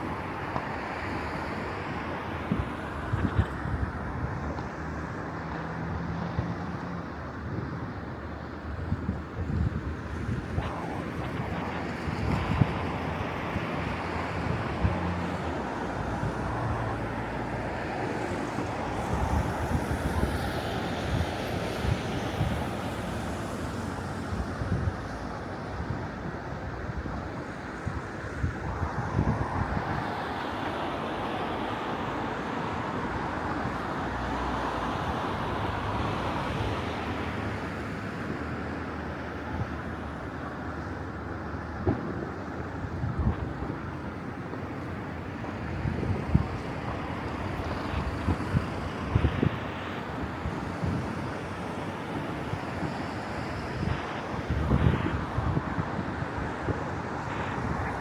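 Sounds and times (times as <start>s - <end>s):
city traffic rumble: 0.0s - 58.0s
wind buffeting microphone: 0.0s - 58.0s.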